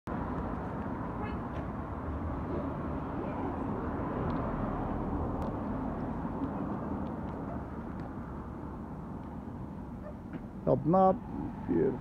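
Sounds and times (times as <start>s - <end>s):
low outdoor rumble: 0.1s - 12.0s.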